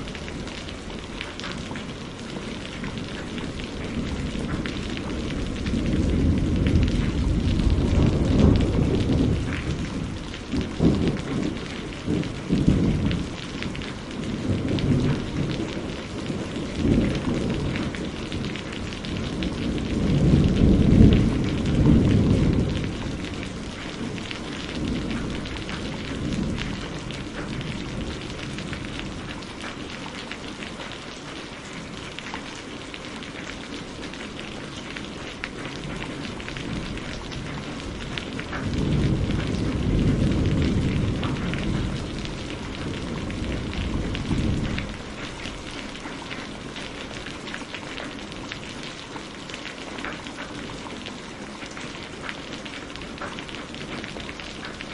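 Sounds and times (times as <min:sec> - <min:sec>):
low rolling thunder: 0:00.0 - 0:30.7, 0:33.2 - 0:49.0
steady rain falling: 0:00.0 - 0:54.9.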